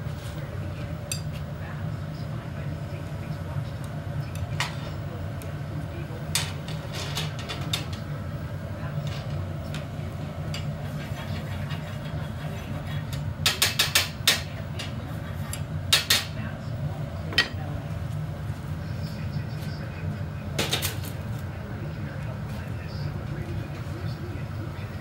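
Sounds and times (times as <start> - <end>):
low hum of shop equipment: 0.0 - 25.0.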